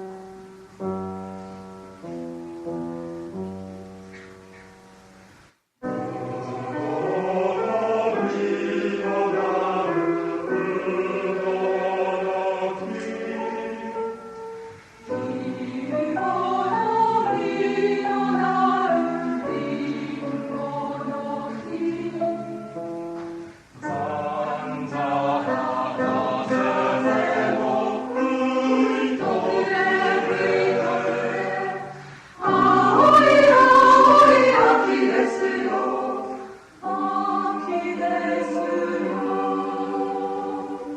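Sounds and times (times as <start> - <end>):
mixed choir singing in harmony: 5.8 - 40.9.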